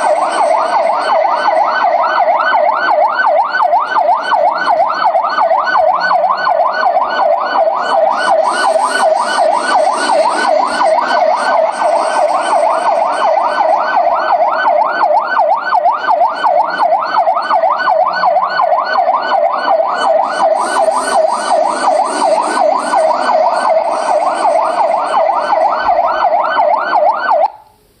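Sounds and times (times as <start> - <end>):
police siren yelp: 0.0 - 27.6.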